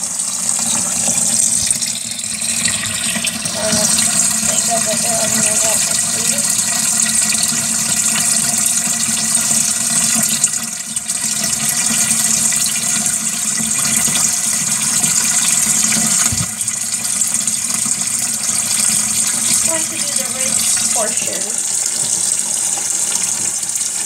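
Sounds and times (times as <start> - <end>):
tap water pouring into tub: 0.0 - 24.0.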